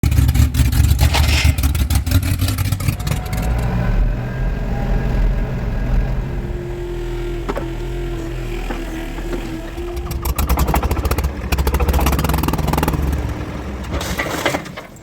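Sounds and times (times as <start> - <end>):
car engine revving with crackle: 0.0 - 15.0.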